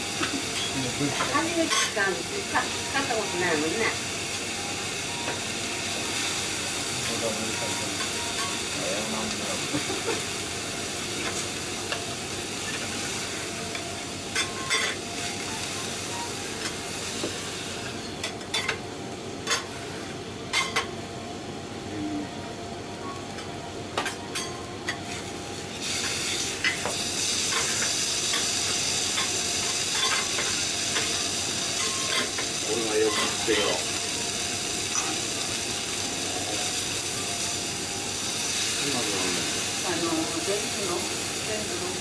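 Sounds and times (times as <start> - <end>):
steak sizzling on a griddle: 0.0 - 18.7, 25.0 - 42.0.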